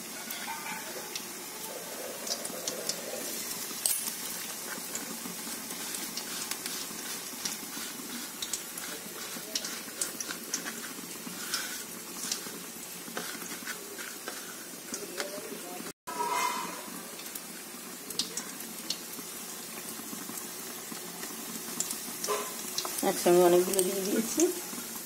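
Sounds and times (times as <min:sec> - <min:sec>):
food deep-frying in oil: 0:00.0 - 0:25.0.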